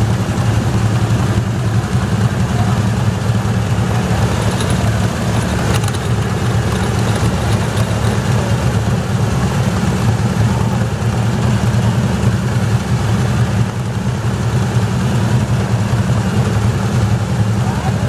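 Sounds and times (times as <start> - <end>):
garden tractor engine running: 0.0 - 18.0.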